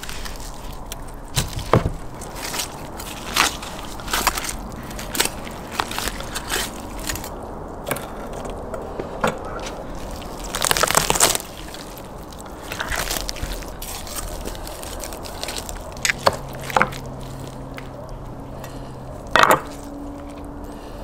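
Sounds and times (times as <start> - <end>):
crisp skin crackling: 0.0 - 8.6, 9.6 - 20.6
meat and bones tearing: 0.0 - 8.7, 9.6 - 20.9.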